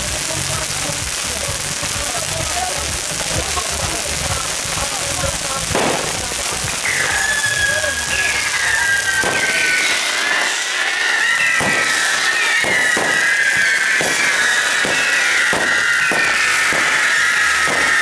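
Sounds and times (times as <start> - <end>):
firework cracks: 0.0 - 18.0
fireworks whistling: 0.0 - 18.0.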